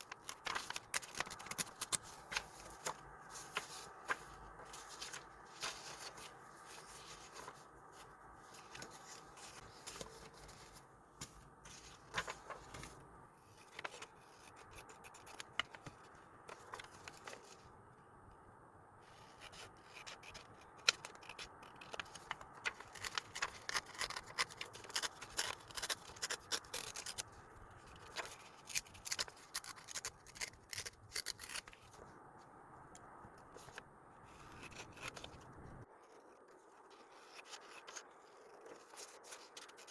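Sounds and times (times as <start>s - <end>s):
paper and stickers handled: 0.0s - 17.8s, 19.0s - 32.1s, 33.0s - 39.9s.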